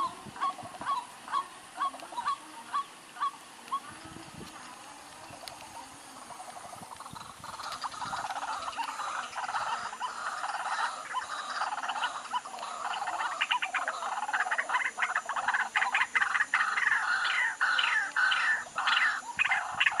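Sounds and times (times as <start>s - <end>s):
chorus of animals clicking calls: 0.0s - 20.0s.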